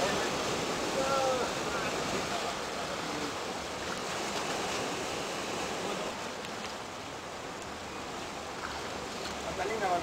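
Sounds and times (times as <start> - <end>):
surf washing among rocks: 0.0 - 10.0.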